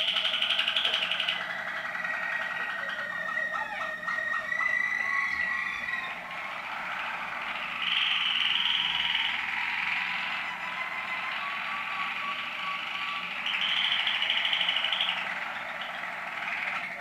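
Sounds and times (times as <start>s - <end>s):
canaries singing trills: 0.0s - 17.0s.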